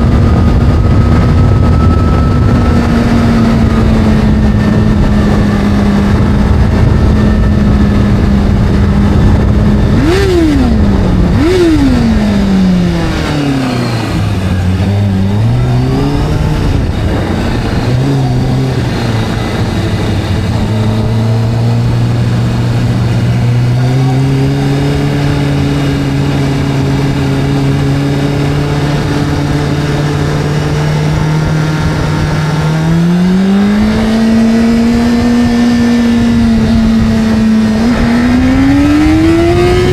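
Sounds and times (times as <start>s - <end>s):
video game motorcycle engine: 0.0s - 39.9s.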